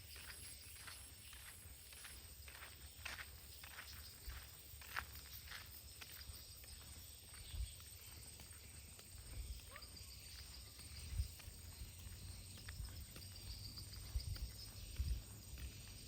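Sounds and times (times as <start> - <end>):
faint outdoor background: 0.0 - 16.0
footsteps on outdoor path: 0.0 - 16.0.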